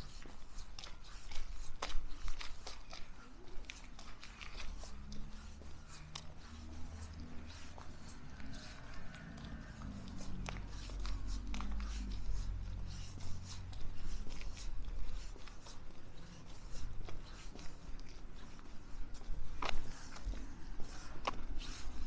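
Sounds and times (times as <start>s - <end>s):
footsteps on pavement: 0.0s - 22.0s.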